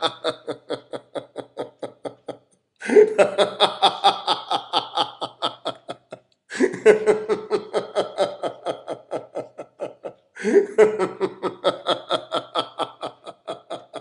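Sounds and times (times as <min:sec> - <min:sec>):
man laughing: 0:00.0 - 0:14.0.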